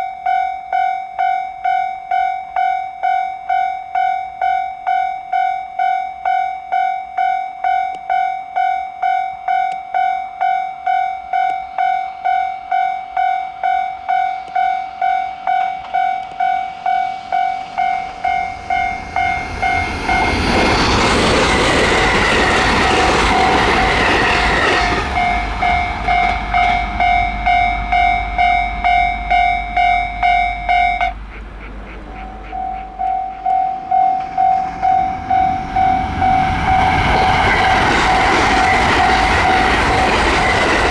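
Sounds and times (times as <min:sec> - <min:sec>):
level crossing warning bell: 0:00.0 - 0:40.9
train passing: 0:01.2 - 0:40.9.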